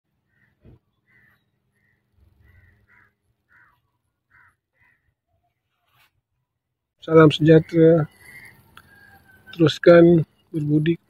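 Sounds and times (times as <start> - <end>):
faint bird calls: 0.2 - 6.5, 7.4 - 10.5.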